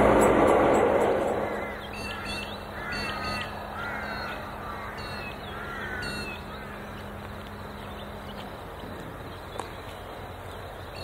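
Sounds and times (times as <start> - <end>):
birds falling calls: 0.0 - 11.0
steady low hum: 0.0 - 11.0.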